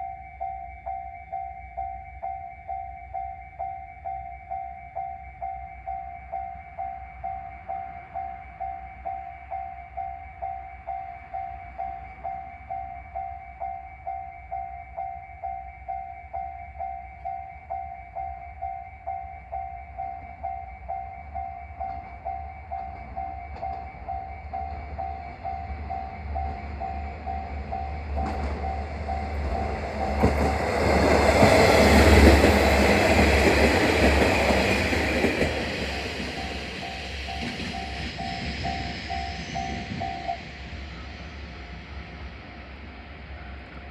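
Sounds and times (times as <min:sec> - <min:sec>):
level crossing alarm ringing: 0:00.0 - 0:42.7
diesel railcar passing: 0:05.4 - 0:43.9.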